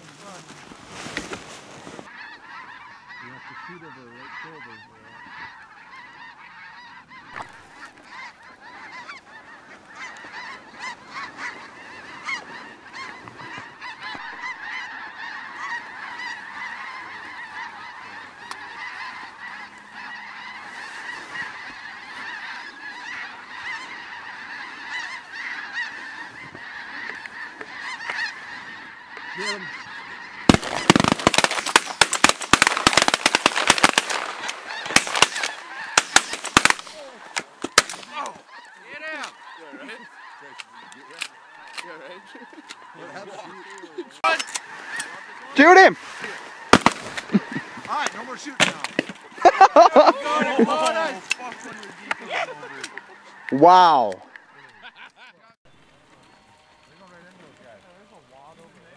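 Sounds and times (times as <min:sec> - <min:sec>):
geese honking: 0:00.0 - 0:58.9.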